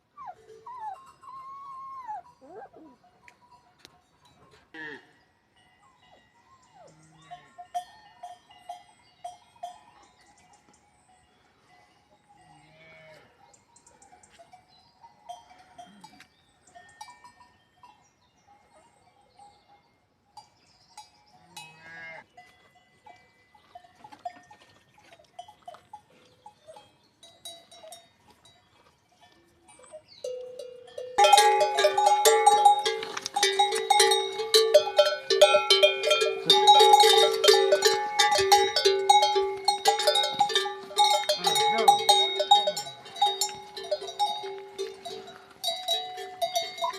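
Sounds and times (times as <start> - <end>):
cowbells clanging: 0.0 - 5.0, 5.6 - 13.1, 13.8 - 46.9.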